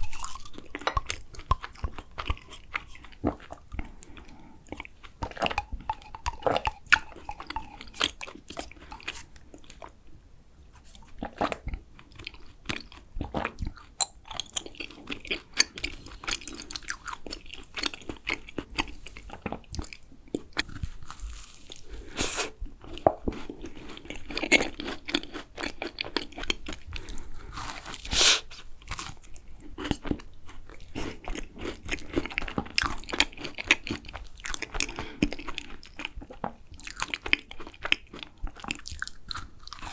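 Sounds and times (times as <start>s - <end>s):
wet chewing: 0.0s - 9.9s, 10.9s - 39.9s.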